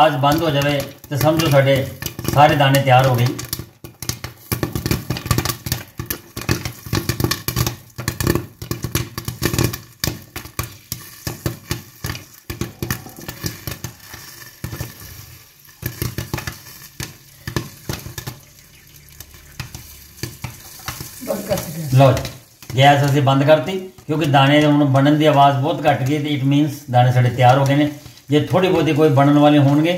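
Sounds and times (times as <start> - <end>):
popcorn popping in a pan: 0.0 - 29.9.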